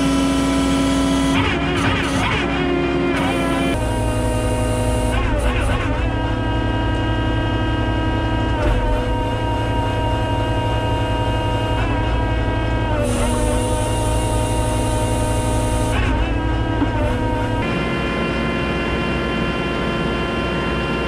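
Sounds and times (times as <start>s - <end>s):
diesel engine and hydraulics running: 0.0s - 21.0s.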